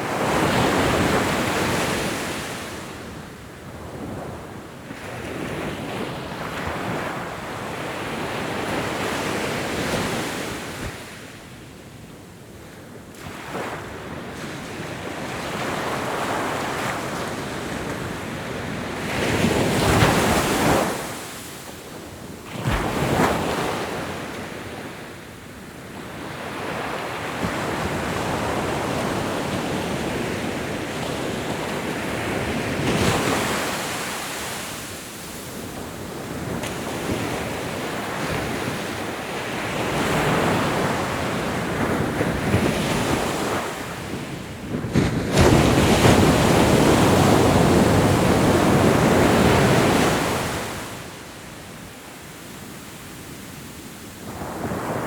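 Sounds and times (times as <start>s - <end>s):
ocean waves breaking on shore: 0.0s - 11.5s, 13.2s - 55.0s.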